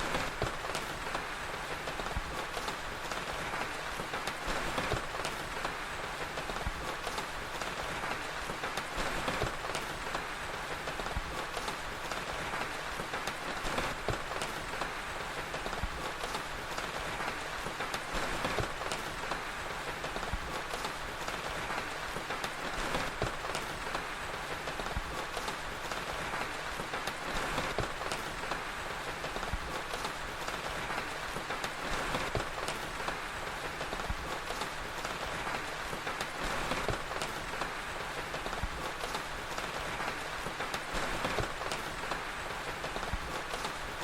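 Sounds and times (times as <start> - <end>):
steady rain hiss: 0.0 - 44.0
wood fire crackling: 0.0 - 44.0.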